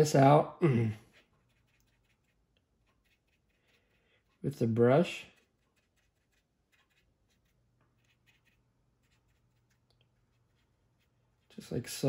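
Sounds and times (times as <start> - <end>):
dry brush scratching on plastic: 1.0 - 12.0.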